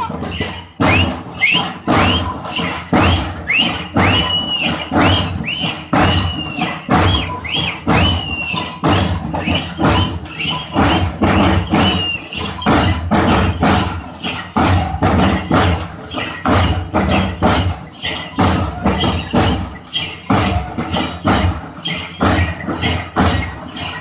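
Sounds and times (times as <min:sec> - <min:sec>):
folk drums beating: 0:00.0 - 0:24.0.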